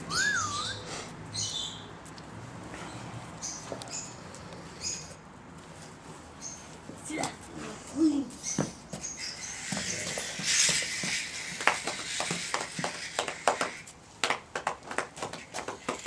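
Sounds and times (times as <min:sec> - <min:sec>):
puppies scampering on pavement: 0:00.0 - 0:16.0.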